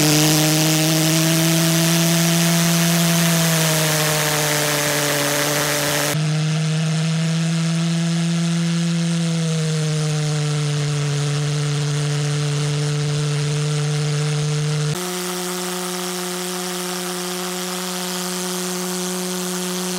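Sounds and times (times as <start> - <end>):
pulse jet engine buzzing: 0.0 - 19.9.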